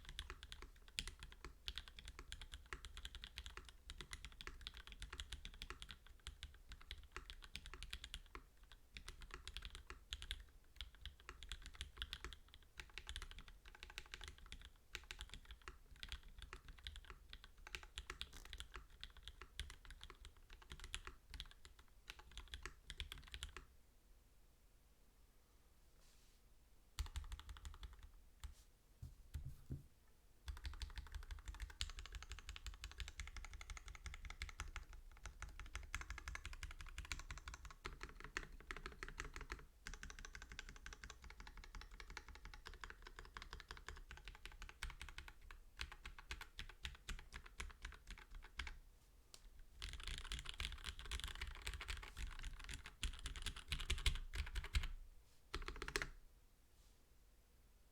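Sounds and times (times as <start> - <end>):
mechanical keyboard typing: 0.0 - 23.6, 27.0 - 28.1, 30.5 - 48.8, 49.8 - 54.9, 55.5 - 56.1.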